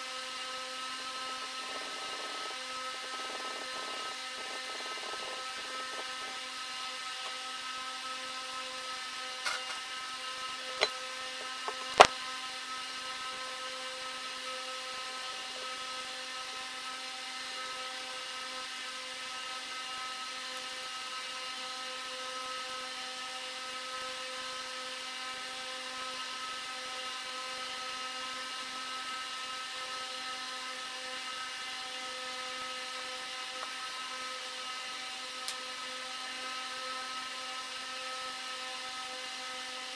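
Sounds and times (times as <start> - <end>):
machine whine: 0.0 - 39.9.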